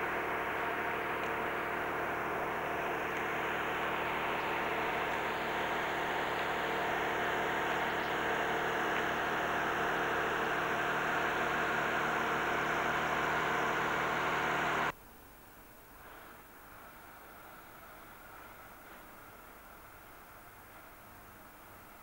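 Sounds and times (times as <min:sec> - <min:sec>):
engine running steadily: 0:00.0 - 0:15.0, 0:15.9 - 0:22.0.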